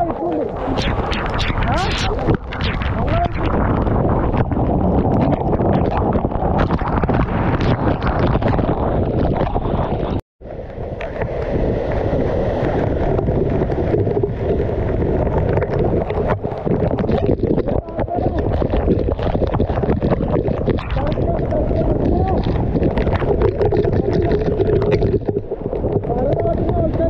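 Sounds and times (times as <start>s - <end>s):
water buffeting microphone: 0.0s - 27.0s.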